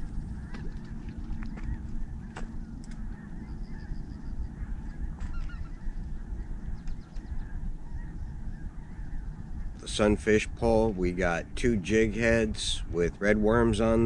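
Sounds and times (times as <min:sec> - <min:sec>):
geese honking faintly: 0:00.0 - 0:14.0
steady low rumble: 0:00.0 - 0:14.0.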